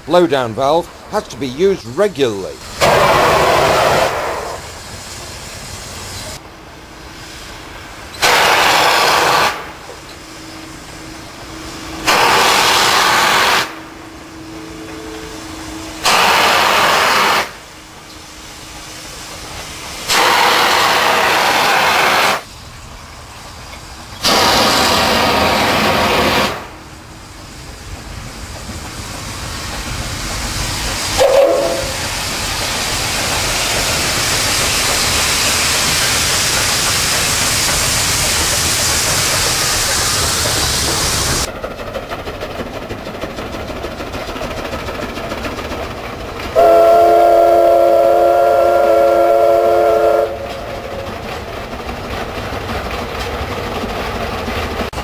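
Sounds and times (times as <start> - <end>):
steam hissing bursts: 0.0 - 41.5, 46.5 - 52.4
locomotive running noise: 0.0 - 55.0.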